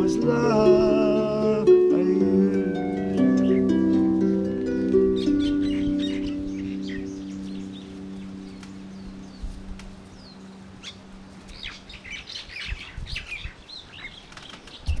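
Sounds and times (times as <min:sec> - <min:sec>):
small birds chirping: 0:02.5 - 0:15.0.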